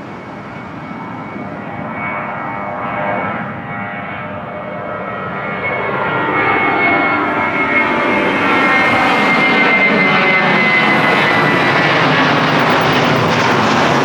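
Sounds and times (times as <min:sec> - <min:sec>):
jet engines rumbling with fan whine: 0:00.0 - 0:14.0.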